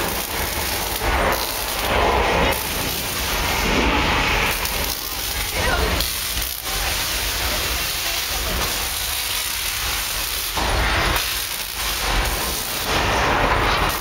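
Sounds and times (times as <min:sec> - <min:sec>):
low rumble: 0:00.0 - 0:07.9, 0:08.6 - 0:14.0
loud rushing hiss: 0:00.0 - 0:14.0.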